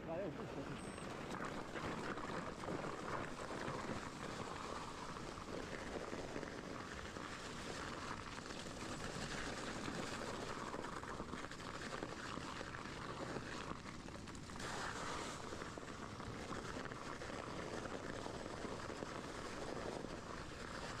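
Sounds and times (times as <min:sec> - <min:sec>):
bike tyres rolling on rough ground: 0:00.6 - 0:21.0.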